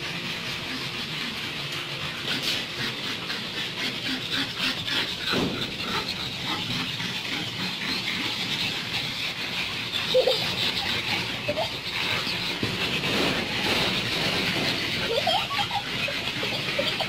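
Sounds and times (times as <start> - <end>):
dog claws clicking and scuffling: 0.0 - 17.0
dog crying: 0.2 - 17.0.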